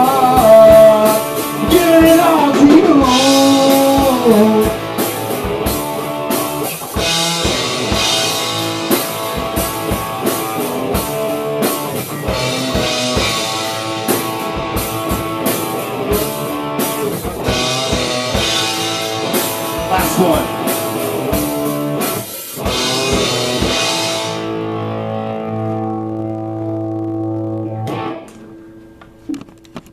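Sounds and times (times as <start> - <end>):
drum kit playing: 0.0 - 26.3
electric guitar: 0.0 - 29.9.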